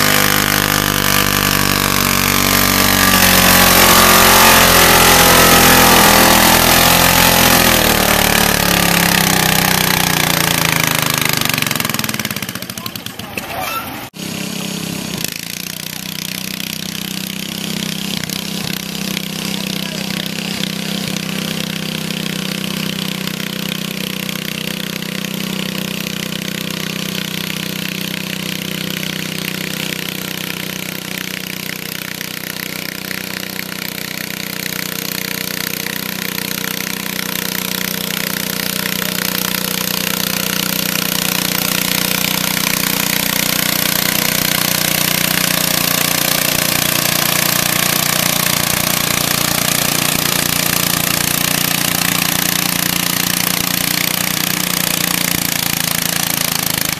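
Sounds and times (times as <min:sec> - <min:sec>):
tractor engine running hard: 0:00.0 - 0:56.9.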